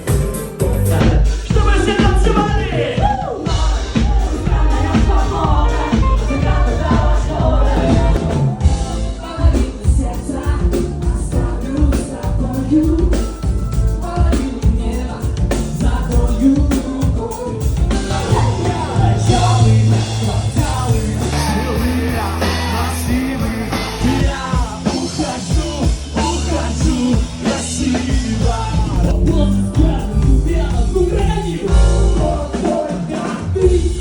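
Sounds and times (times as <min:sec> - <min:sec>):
bass guitar: 0:00.0 - 0:34.0
drums: 0:00.0 - 0:34.0
lead vocal singing: 0:00.0 - 0:34.0.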